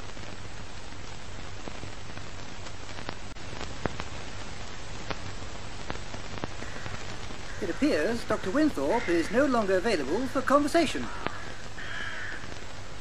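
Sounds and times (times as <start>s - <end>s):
crackles and pops: 0.0s - 13.0s
film hiss: 0.0s - 13.0s.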